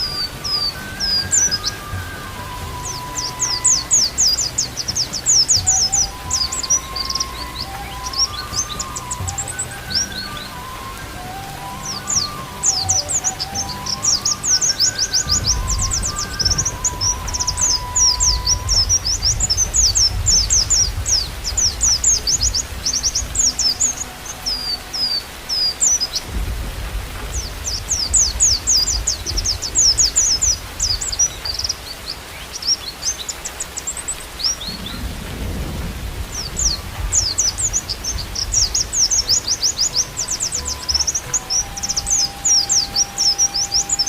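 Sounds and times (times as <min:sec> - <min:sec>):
low rumble: 0:00.0 - 0:32.0, 0:34.6 - 0:44.0
birds twittering song: 0:00.0 - 0:44.0.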